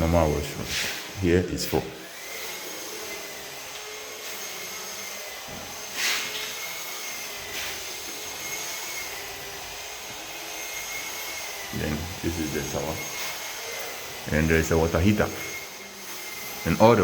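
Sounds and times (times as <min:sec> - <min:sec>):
machine hissing and whining: 0:00.0 - 0:17.0.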